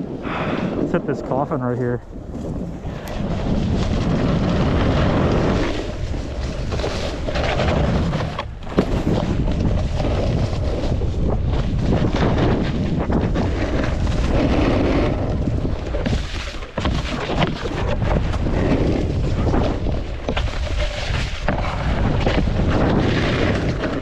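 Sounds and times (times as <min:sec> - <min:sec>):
snowboard scraping over snow: 0:00.0 - 0:24.0
wind buffeting microphone: 0:00.0 - 0:24.0.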